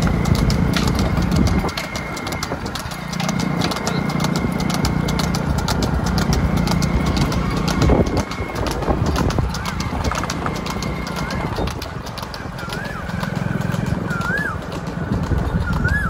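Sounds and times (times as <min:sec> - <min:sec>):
engine running: 0:00.0 - 0:16.0
hooves clopping on hard road: 0:00.0 - 0:16.0.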